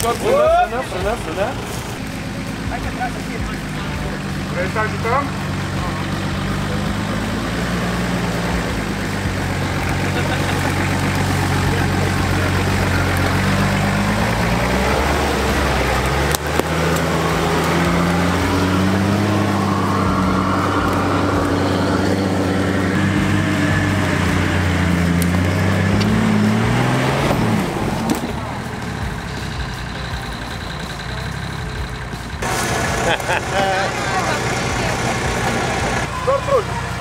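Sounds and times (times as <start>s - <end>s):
off-road engines climbing under load: 0.0s - 37.0s.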